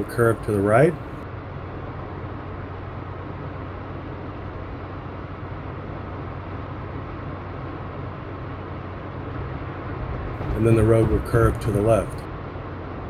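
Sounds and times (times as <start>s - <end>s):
low engine hum: 0.0s - 13.0s
road and tyre noise: 0.0s - 13.0s.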